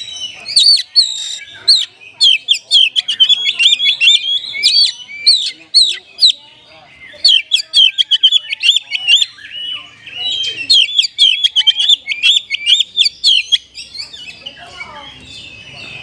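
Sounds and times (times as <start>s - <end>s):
magpie-robin singing: 0.0s - 16.0s.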